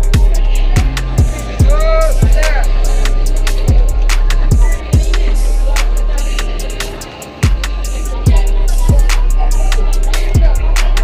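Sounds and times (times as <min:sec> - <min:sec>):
hip-hop beat: 0:00.0 - 0:11.0.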